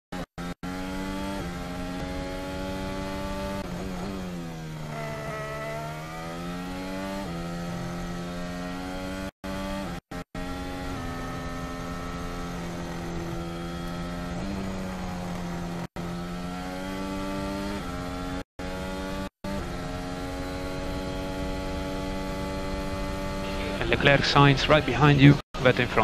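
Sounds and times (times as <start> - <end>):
racing car engine at high revs: 0.1 - 26.0.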